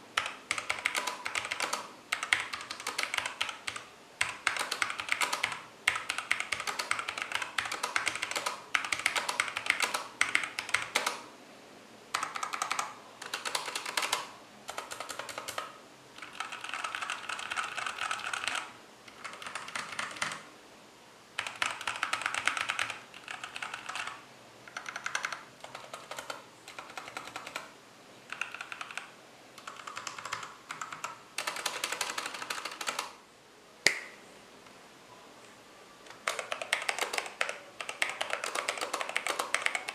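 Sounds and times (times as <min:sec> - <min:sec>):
mechanical keyboard typing: 0:00.2 - 0:11.3, 0:12.2 - 0:20.5, 0:21.4 - 0:27.7, 0:28.3 - 0:33.2, 0:36.1 - 0:39.9.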